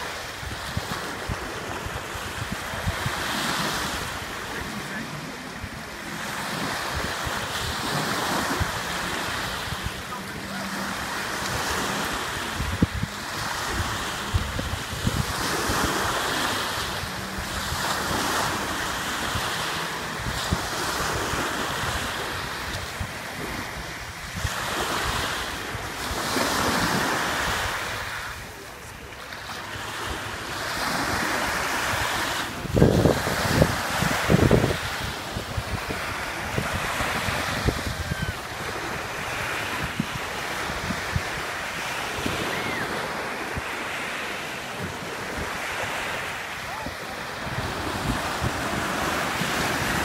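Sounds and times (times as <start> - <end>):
wind buffeting microphone: 0.0 - 28.4, 30.7 - 43.9, 44.6 - 50.0
small waves breaking on shore: 0.0 - 50.0.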